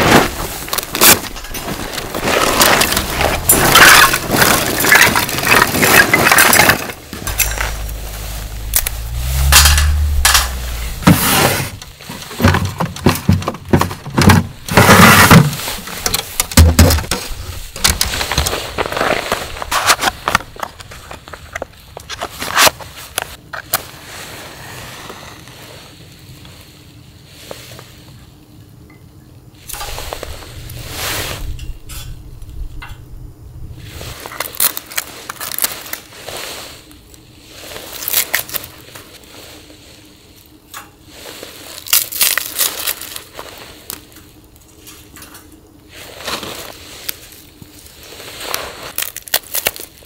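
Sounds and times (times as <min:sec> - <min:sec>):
crunching and rustling: 0:00.0 - 0:28.6, 0:29.6 - 0:50.0.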